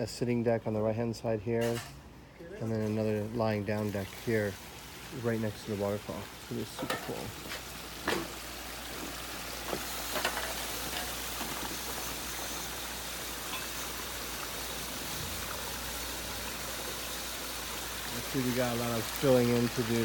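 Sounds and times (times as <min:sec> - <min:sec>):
water trickling over rocks: 0:02.6 - 0:20.0.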